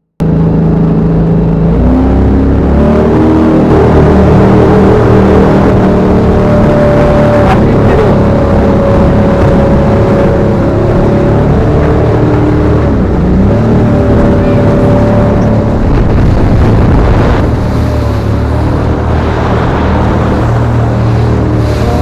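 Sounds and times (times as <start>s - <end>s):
motorboat engine running hard: 0.2s - 22.0s
wind noise: 0.2s - 22.0s
rushing water: 0.3s - 22.0s.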